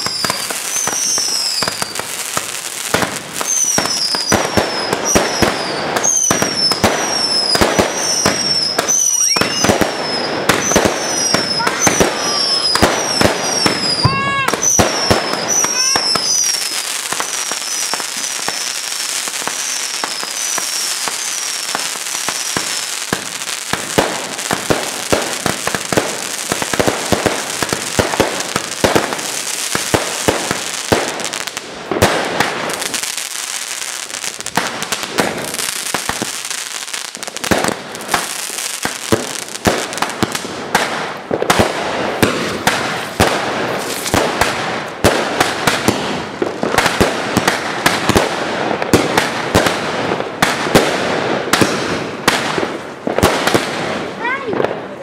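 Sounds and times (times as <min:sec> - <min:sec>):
firecracker bangs: 0:00.0 - 0:33.4, 0:34.0 - 0:55.0
firework crackling: 0:00.0 - 0:55.0
rockets bursting: 0:00.0 - 0:55.0.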